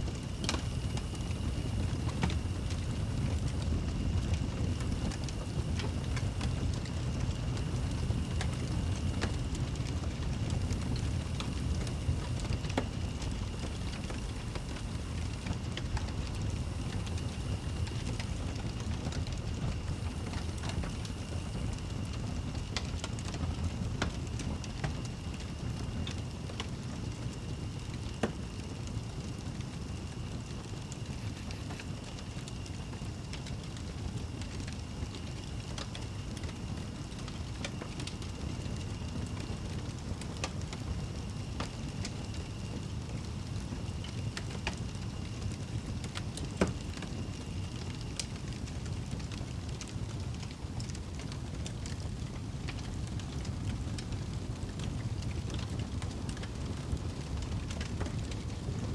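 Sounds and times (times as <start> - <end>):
fire crackling and popping: 0.0 - 58.9.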